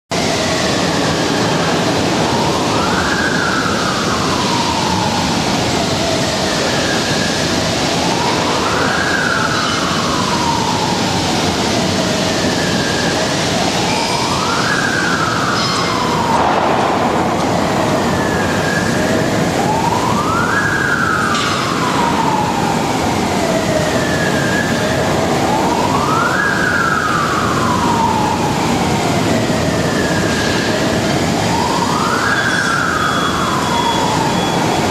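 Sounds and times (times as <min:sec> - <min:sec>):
loud steady noise: 0:00.1 - 0:34.9
siren wailing: 0:00.1 - 0:34.9.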